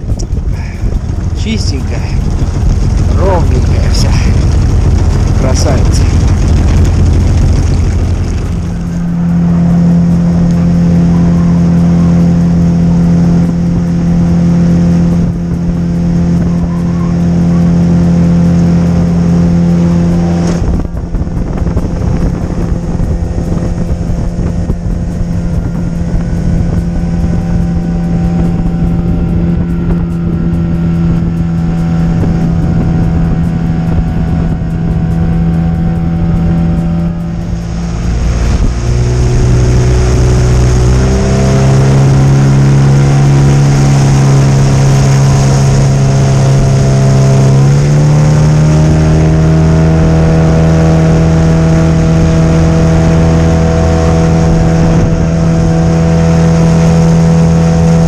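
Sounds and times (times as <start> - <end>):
outboard motor running: 0.0 - 58.0
water noise: 0.0 - 58.0
wind: 0.0 - 58.0.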